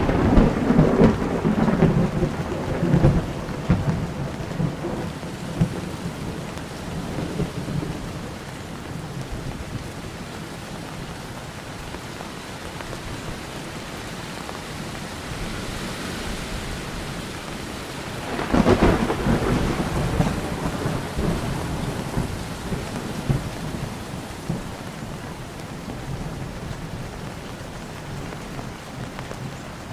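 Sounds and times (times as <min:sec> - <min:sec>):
thunder clap rumbling: 0:00.0 - 0:10.0, 0:15.4 - 0:29.6
steady rain: 0:00.0 - 0:29.9.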